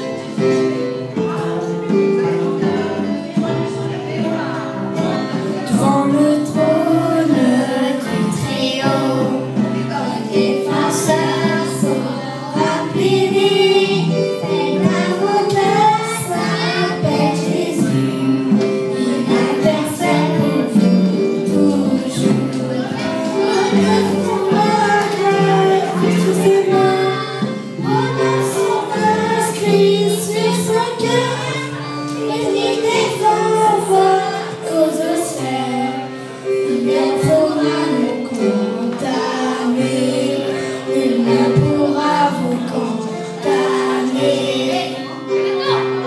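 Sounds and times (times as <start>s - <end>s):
amplified instrumental accompaniment: 0.0s - 46.0s
children singing: 0.0s - 46.0s
woman singing: 2.3s - 31.8s, 32.8s - 45.8s.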